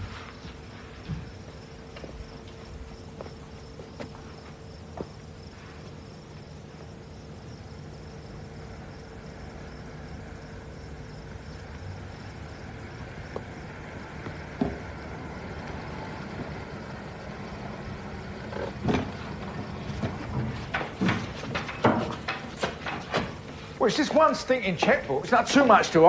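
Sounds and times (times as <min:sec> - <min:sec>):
crickets chirping: 0:00.0 - 0:26.0
low background hum: 0:00.0 - 0:26.0.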